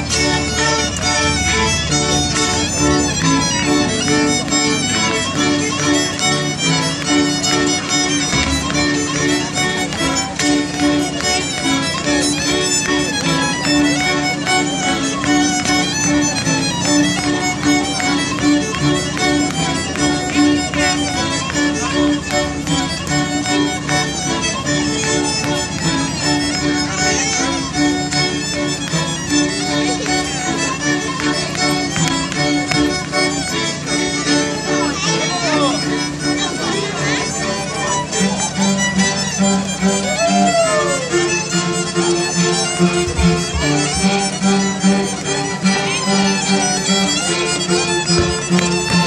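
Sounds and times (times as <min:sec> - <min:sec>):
fiddles playing melody: 0:00.0 - 0:49.0
folk string band playing: 0:00.0 - 0:49.0.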